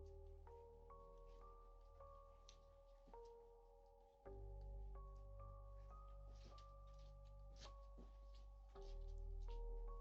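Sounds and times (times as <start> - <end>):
soft held-note music: 0.0 - 10.0.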